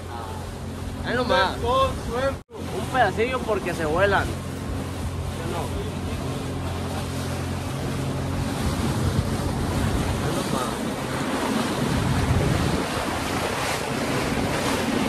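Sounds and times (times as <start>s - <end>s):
boat motor humming: 0.0s - 15.0s
water rushing along hull: 0.0s - 15.0s
wind buffeting microphone: 0.4s - 15.0s.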